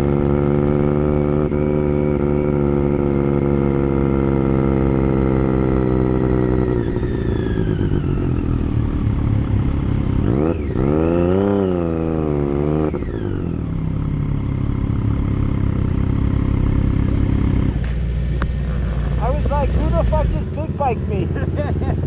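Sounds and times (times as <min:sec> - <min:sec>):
engine revving: 0:00.0 - 0:22.0
motorcycle engines running: 0:00.0 - 0:22.0.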